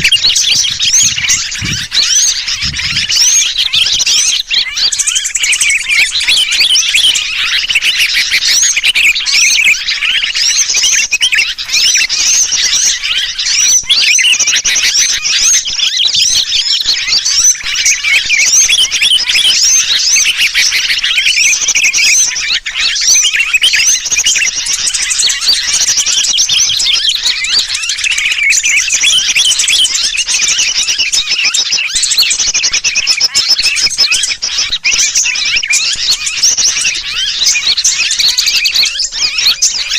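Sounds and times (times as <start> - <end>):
distressed bulbul calls: 0.0 - 39.9
small birds chirping and trilling: 0.0 - 39.9.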